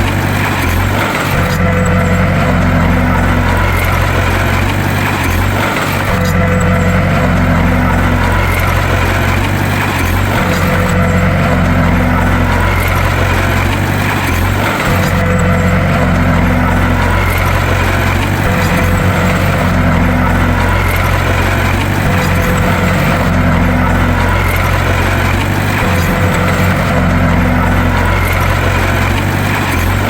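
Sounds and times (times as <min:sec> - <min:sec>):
heavy engine humming: 0:00.0 - 0:30.0.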